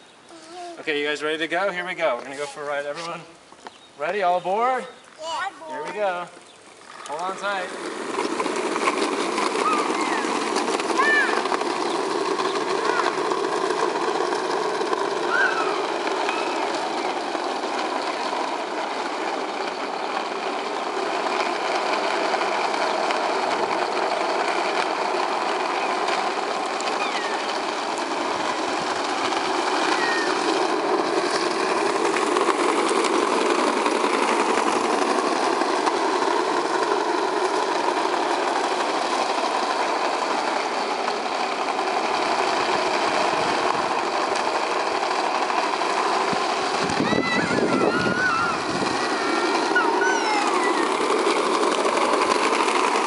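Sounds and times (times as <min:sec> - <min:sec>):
electric skateboard motor whirring: 0:00.0 - 0:53.0
plastic wheels rolling: 0:00.0 - 0:53.0.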